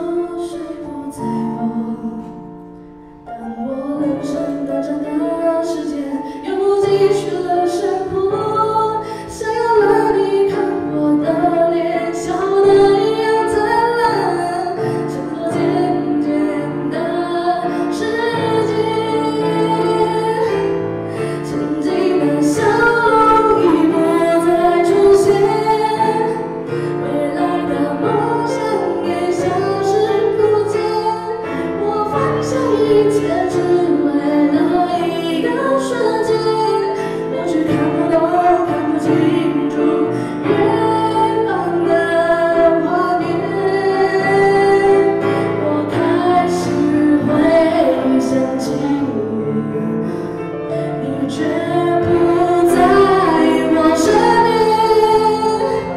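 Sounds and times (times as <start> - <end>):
woman singing: 0.0 - 2.5, 3.4 - 50.1, 50.7 - 55.9
grand piano: 0.0 - 55.9.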